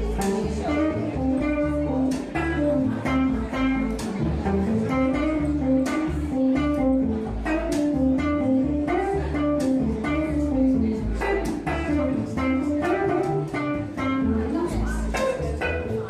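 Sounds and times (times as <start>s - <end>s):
guitar playing chords: 0.0s - 16.0s
plucked double bass: 0.0s - 16.0s.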